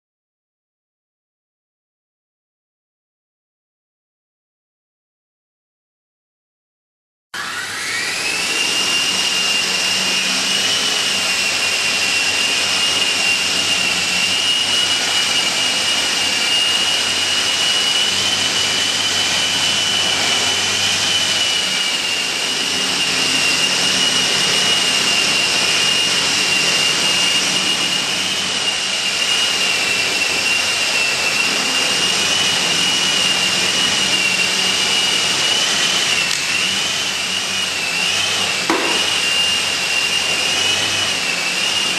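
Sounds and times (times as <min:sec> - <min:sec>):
helicopter rotor noise: 0:07.4 - 0:41.9
model helicopter motor whine: 0:07.4 - 0:41.9.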